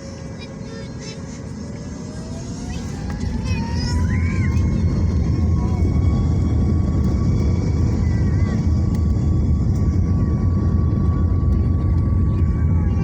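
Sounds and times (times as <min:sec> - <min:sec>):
jet engine whine: 0:00.0 - 0:13.0
jet engines deep rumble: 0:00.0 - 0:13.0.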